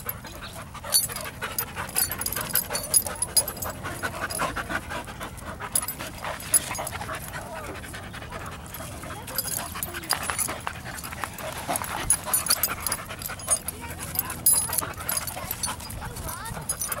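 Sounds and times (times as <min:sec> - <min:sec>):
dogs panting: 0:00.0 - 0:17.0
dogs scuffling: 0:00.0 - 0:17.0.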